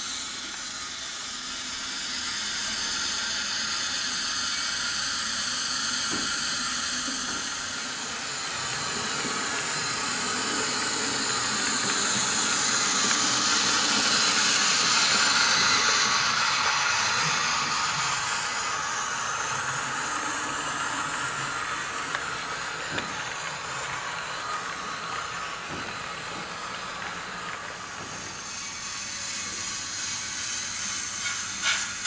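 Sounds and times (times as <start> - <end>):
steam hiss from small loudspeaker: 0.0 - 32.0.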